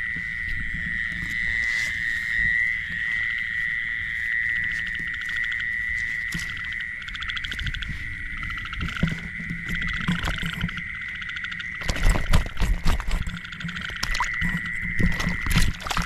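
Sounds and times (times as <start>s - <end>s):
high pulsing trill of animals: 0.0s - 16.0s.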